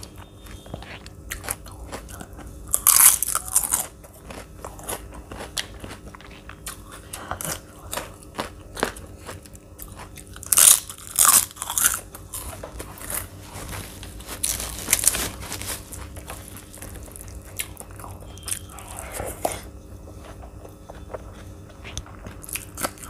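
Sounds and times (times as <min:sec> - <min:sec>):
crunchy chewing of food: 0:00.0 - 0:23.0.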